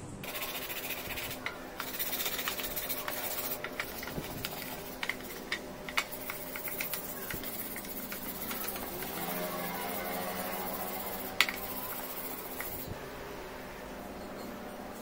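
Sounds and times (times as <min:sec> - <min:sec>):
sandpaper rubbing on wood: 0:00.2 - 0:13.0.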